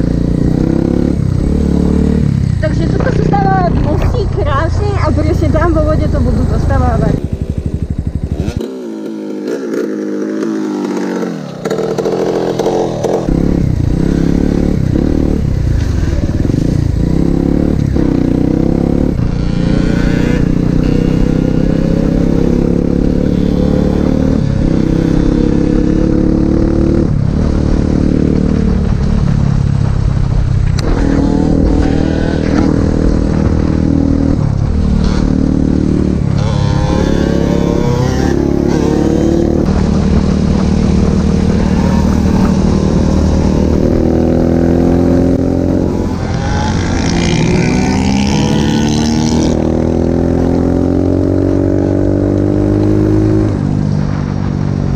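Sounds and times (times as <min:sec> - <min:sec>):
motorbike engine revving through gears: 0:00.0 - 0:54.7.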